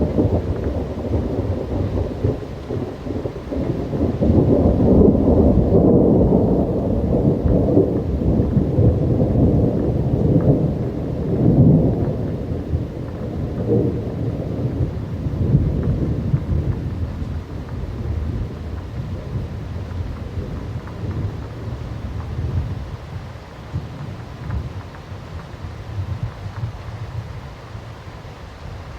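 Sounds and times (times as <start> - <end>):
rolling thunder: 0.0 - 27.5
steady rain: 0.0 - 28.9.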